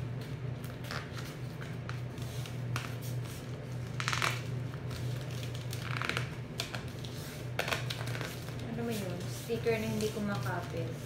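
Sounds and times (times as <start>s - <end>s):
sticker film crinkling: 0.5s - 11.0s.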